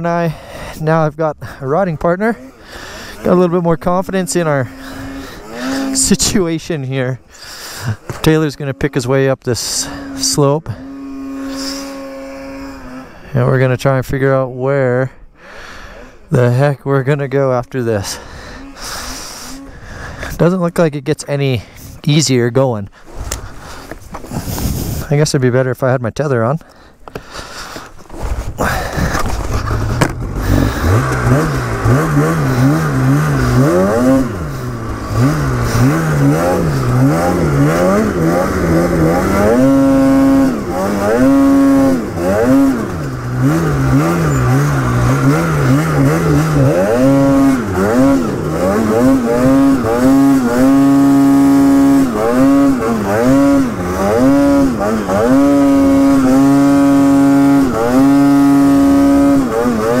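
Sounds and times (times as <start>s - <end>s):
snowmobile engine revving: 0.0s - 14.7s, 15.8s - 21.1s, 28.2s - 60.0s.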